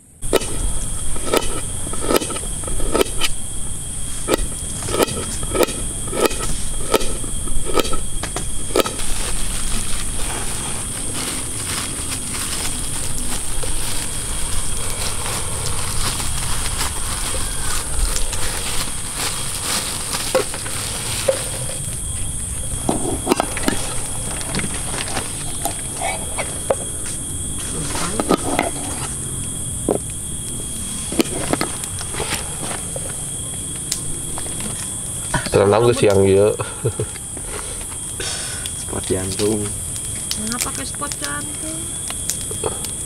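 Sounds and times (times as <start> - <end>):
high insect chorus: 0.0 - 43.0.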